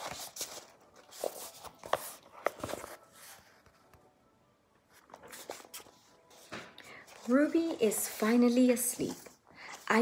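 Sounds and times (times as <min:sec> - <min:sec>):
book page turning: 0:00.0 - 0:04.1, 0:04.8 - 0:10.0.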